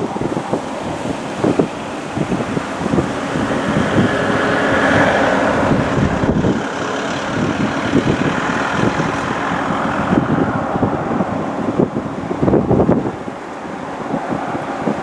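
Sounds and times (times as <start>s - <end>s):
airliner engine noise: 0.0s - 15.0s
wind buffeting microphone: 0.0s - 15.0s.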